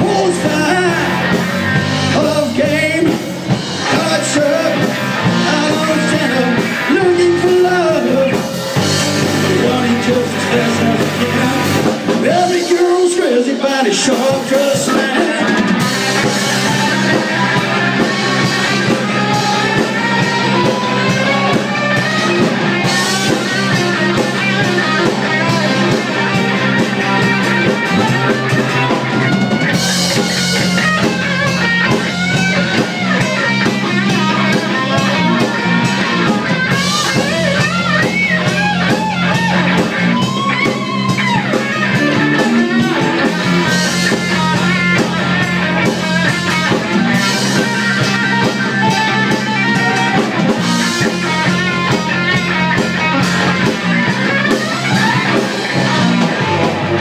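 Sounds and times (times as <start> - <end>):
drum kit: 0.0 - 57.0
electric bass: 0.0 - 57.0
electric guitars: 0.0 - 57.0.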